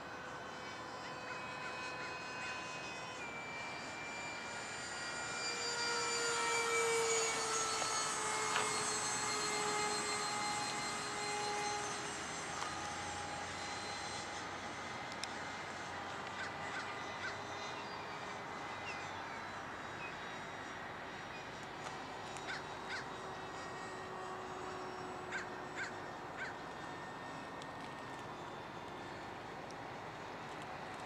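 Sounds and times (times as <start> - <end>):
model jet fan whirring: 0.0 - 31.0.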